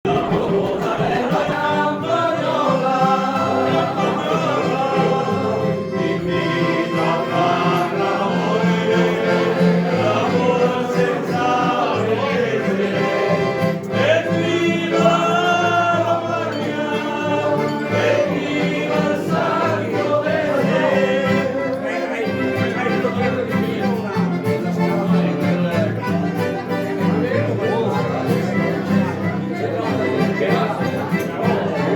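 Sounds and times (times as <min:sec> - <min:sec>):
singing with instrumental music: 0:00.1 - 0:31.9.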